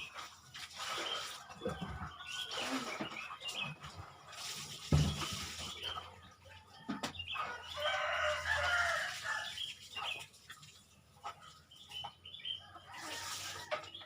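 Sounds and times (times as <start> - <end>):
birds chirping: 0.9 - 13.0.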